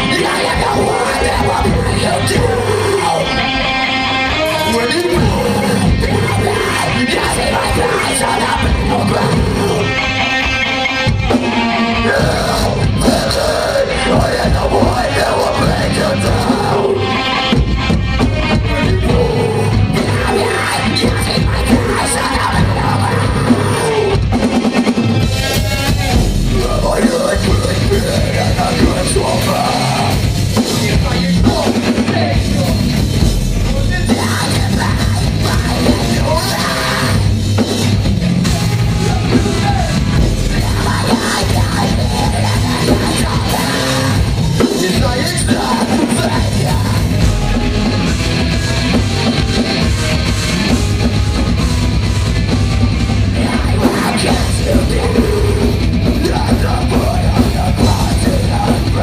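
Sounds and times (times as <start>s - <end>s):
bass guitar: 0.0s - 59.0s
distorted electric guitars: 0.0s - 59.0s
harsh yelled vocals: 0.0s - 59.0s
live metal band playing: 0.0s - 59.0s
pounding drum kit: 0.0s - 59.0s.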